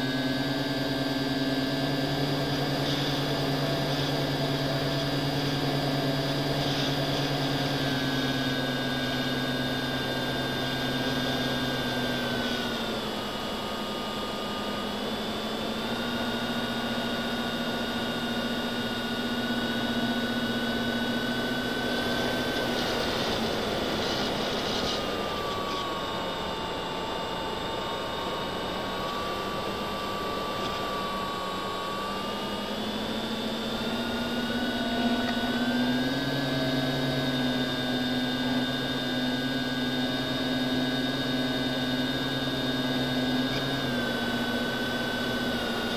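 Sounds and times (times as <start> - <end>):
drone motors and propellers whining: 0.0 - 45.9.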